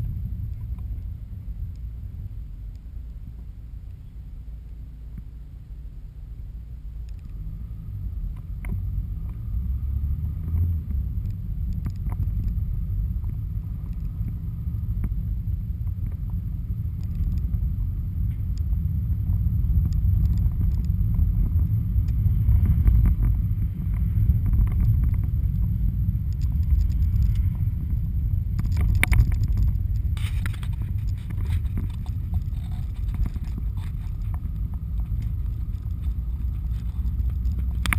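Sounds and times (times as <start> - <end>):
car engine and tyre rumble: 0.0 - 37.9.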